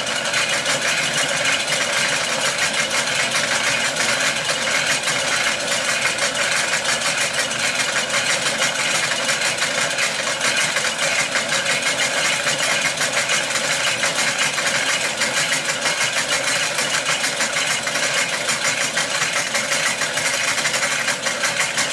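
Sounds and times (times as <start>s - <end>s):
film projector clattering: 0.0s - 21.9s.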